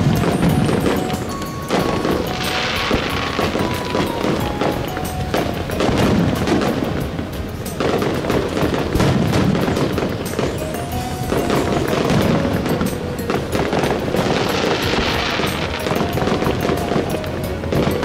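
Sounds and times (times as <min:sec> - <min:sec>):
deep fireworks booms: 0:00.0 - 0:18.0
fireworks bursting and crackling: 0:00.0 - 0:18.0
music playing: 0:00.0 - 0:18.0.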